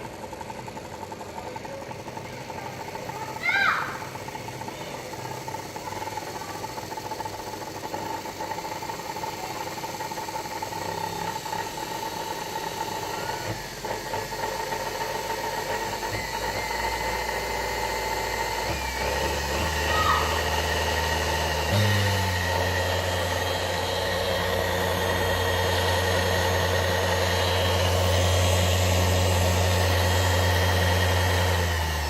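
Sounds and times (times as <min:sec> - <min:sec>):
washing machine motor humming: 0:00.0 - 0:32.0.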